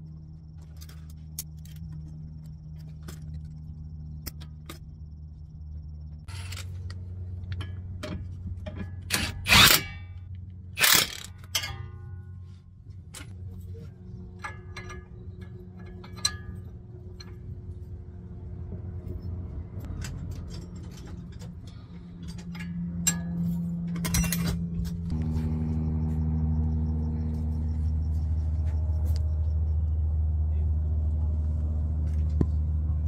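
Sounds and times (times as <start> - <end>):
steady low hum: 0.0 - 33.0
vehicle drone: 0.0 - 33.0.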